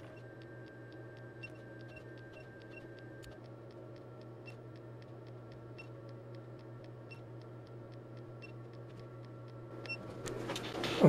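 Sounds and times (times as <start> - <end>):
faint electrical clicks: 0.0 - 11.0
low electrical hum: 0.0 - 11.0.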